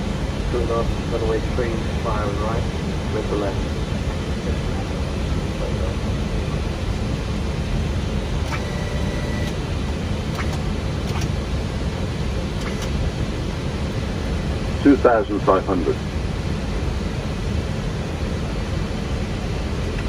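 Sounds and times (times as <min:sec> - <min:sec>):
low rumble of airflow and engine: 0:00.0 - 0:20.0.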